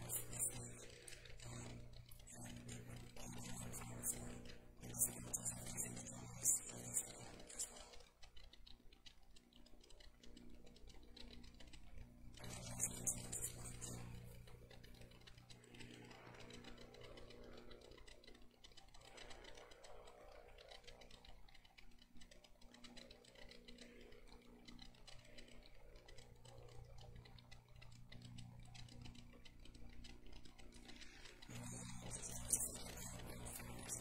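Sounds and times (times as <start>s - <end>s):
faint light ticks: 0.0s - 34.0s
low electrical hum: 0.0s - 34.0s.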